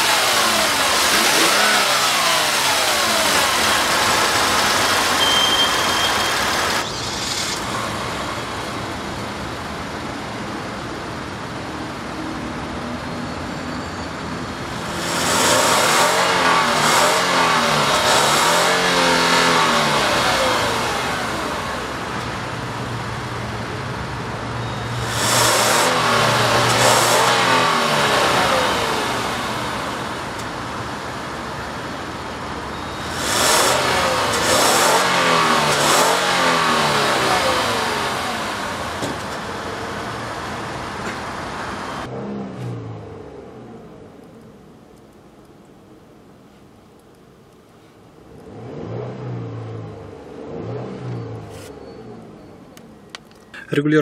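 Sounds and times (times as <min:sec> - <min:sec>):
car engine idling and revving: 0:00.0 - 0:53.8.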